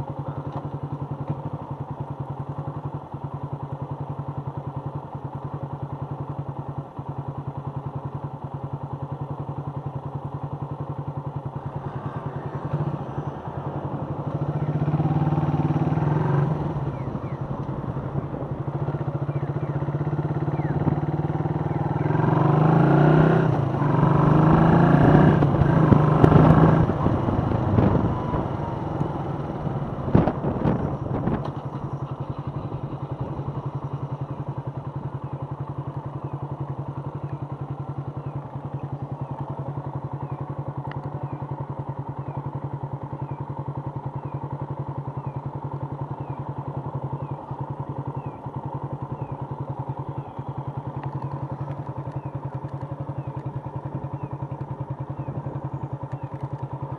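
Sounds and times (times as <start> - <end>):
motorcycle engine idling: 0.0 - 56.9
motorcycle engine running: 0.0 - 56.9.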